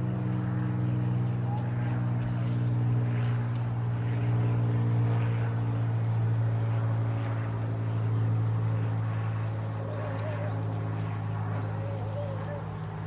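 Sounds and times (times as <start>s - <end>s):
low motor drone: 0.0s - 13.0s.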